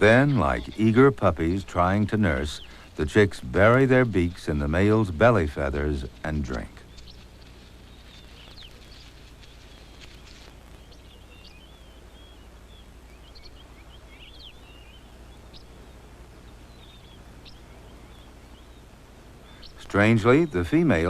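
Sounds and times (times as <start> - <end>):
chicks chirping: 0.0 - 21.0
faint low hum: 0.0 - 21.0.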